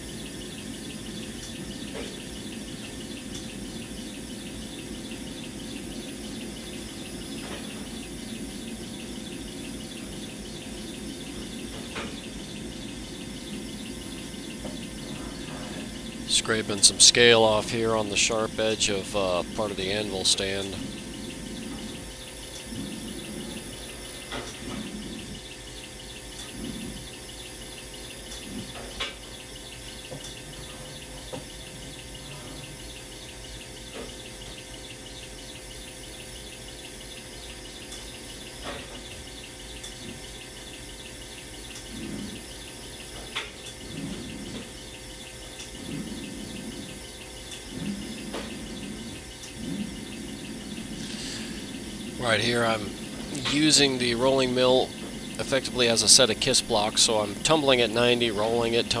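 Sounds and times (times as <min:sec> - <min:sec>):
rolling mill humming: 0:00.0 - 0:59.0.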